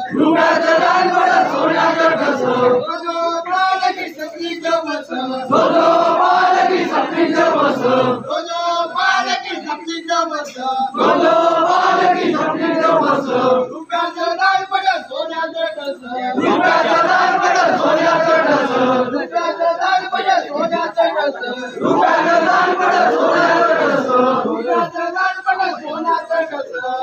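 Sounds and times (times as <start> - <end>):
crowd of men chanting: 0.0 - 2.9, 3.5 - 9.8, 10.6 - 14.8, 16.1 - 27.0
scattered voices: 0.0 - 27.0.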